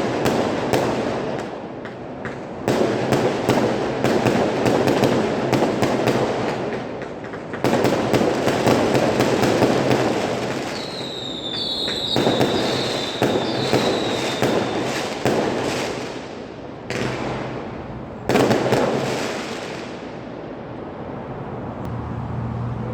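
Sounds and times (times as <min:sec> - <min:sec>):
firecrackers crackling: 0:00.0 - 0:20.5
firework bangs: 0:00.0 - 0:20.6.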